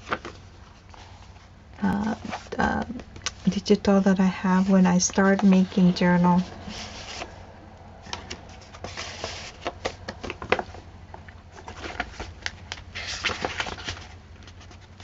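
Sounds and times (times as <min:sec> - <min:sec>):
paper pages rustling: 0:00.0 - 0:03.6, 0:04.6 - 0:07.4, 0:08.0 - 0:10.8, 0:11.5 - 0:15.0.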